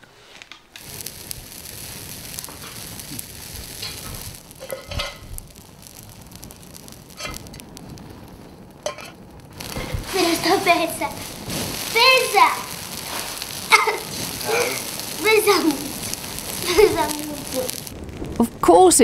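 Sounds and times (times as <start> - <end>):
fire crackling: 0.2 - 19.0
fire popping: 0.3 - 19.0.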